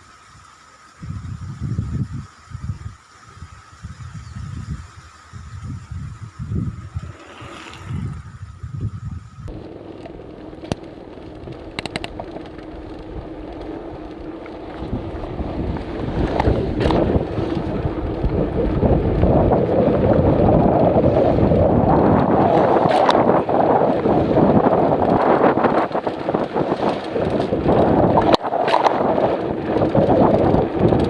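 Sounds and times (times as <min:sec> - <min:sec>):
wind buffeting microphone: 0:01.0 - 0:31.0.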